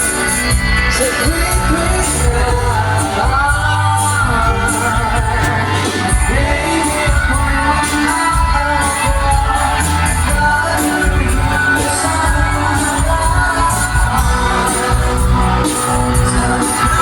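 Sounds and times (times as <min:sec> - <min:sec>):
bass guitar: 0:00.0 - 0:17.0
drums: 0:00.0 - 0:17.0
person singing: 0:00.0 - 0:17.0.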